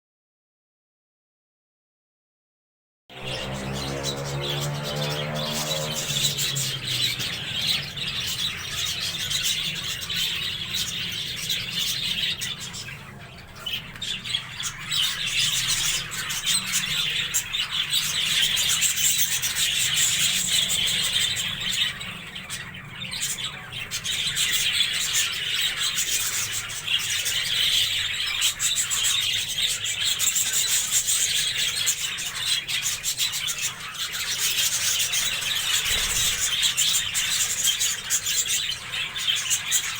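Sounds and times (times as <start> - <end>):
budgerigars chattering and squawking: 3.2 - 39.9.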